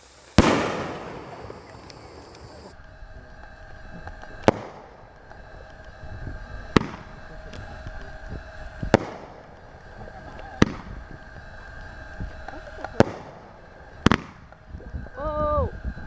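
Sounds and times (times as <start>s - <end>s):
fireworks bangs with echo: 0.0s - 14.6s.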